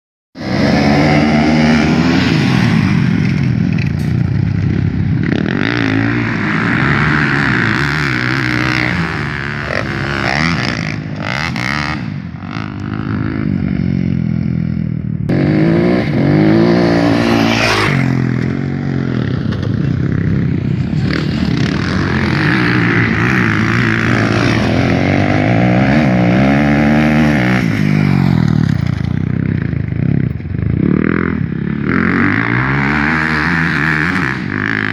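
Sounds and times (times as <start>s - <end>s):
motocross engines revving: 0.4s - 34.9s.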